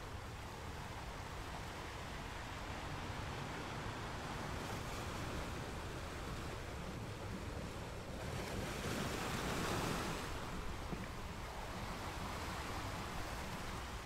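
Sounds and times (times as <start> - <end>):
waves breaking on beach: 0.0 - 14.0.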